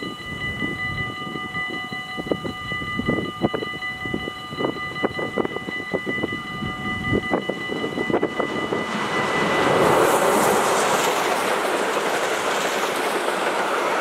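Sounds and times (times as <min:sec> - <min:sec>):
level crossing warning bell: 0:00.0 - 0:11.7
distant steam train approaching: 0:00.0 - 0:14.0
wind gusting on microphone: 0:00.0 - 0:14.0.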